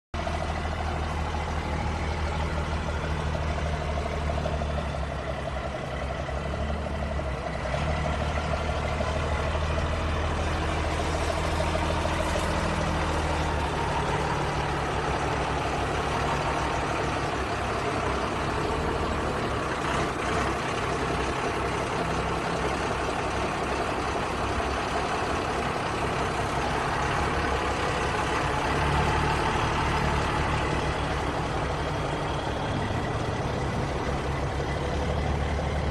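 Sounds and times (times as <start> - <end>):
truck engine running: 0.2 - 35.9.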